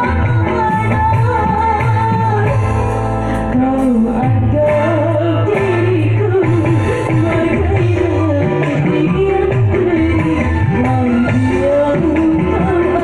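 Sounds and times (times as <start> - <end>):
backing music with bass line: 0.0 - 13.0.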